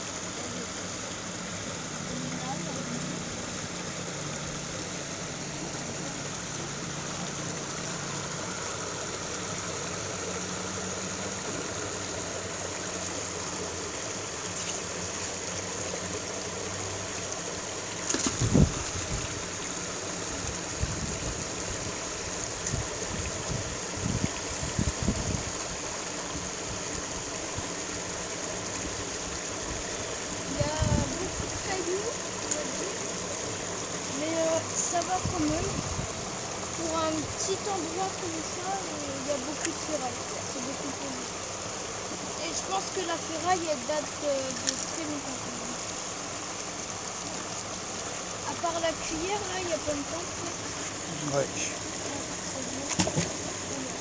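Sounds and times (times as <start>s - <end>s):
stream rushing over cascade: 0.0s - 54.0s.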